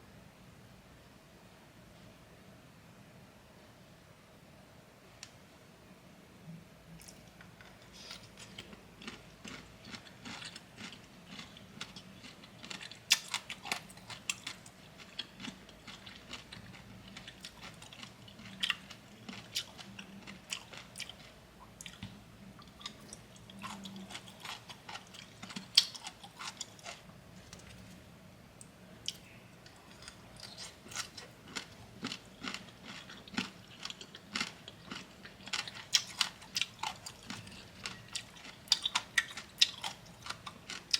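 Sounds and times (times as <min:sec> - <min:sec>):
crunchy chewing: 0:07.0 - 0:28.0, 0:29.0 - 0:40.9.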